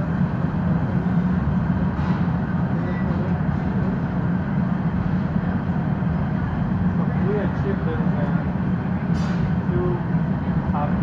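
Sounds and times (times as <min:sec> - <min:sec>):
exhaust hoods running: 0:00.0 - 0:11.0
gas furnaces burning: 0:00.0 - 0:11.0.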